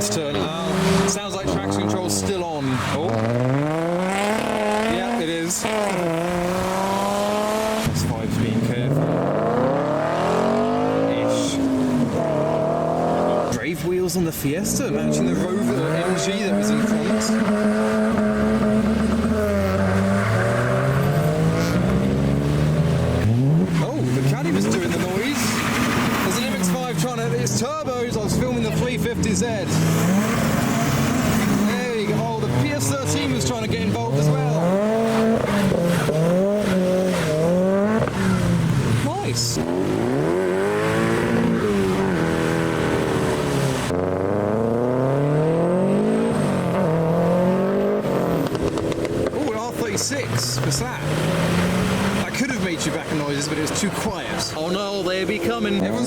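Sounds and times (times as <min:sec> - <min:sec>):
car engine accelerating: 0:00.0 - 0:56.0
engine revving: 0:00.0 - 0:56.0.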